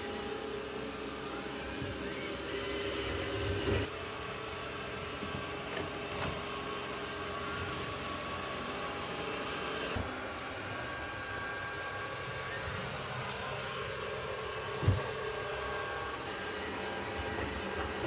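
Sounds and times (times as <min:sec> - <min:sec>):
robot vacuum whirring: 0:00.0 - 0:03.9, 0:05.1 - 0:18.0.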